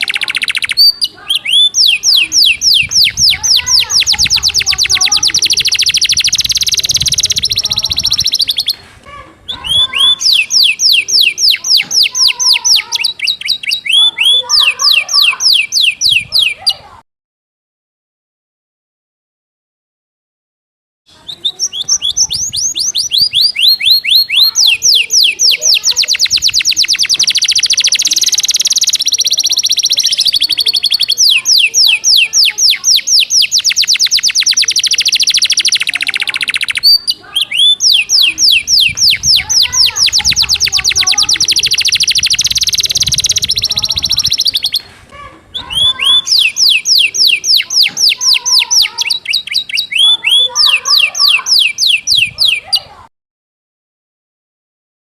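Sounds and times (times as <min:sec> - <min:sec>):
canary singing rapid trills: 0:00.0 - 0:08.8, 0:09.5 - 0:16.9, 0:21.1 - 0:44.9, 0:45.5 - 0:52.9.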